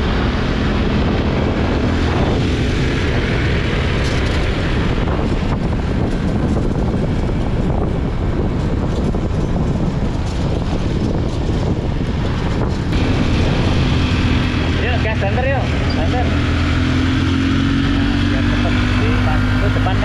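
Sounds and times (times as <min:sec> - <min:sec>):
road and engine noise: 0:00.0 - 0:20.0
wind buffeting microphone: 0:00.0 - 0:20.0.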